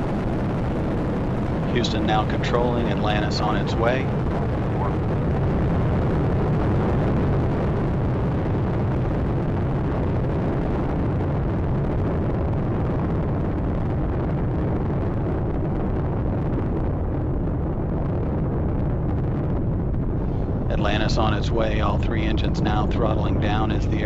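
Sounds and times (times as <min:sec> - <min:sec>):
rocket launch roar: 0:00.0 - 0:24.0.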